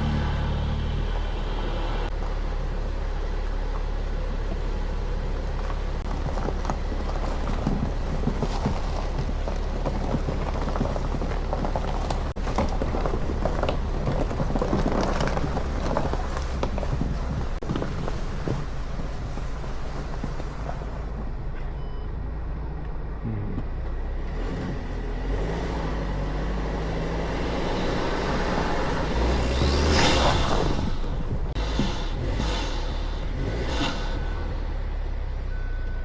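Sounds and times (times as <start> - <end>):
tyres crunching over snow: 0.0 - 36.0
vehicle engine running: 0.0 - 36.0.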